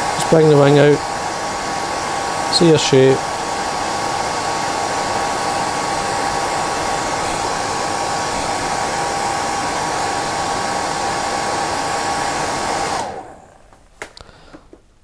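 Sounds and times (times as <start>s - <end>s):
hair dryer running: 0.0s - 13.8s.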